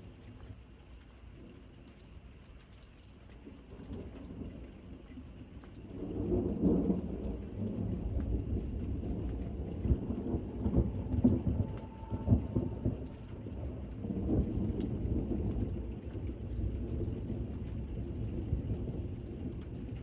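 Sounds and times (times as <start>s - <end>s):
steady rain: 0.0s - 20.0s
thunder rumbling: 3.7s - 20.0s.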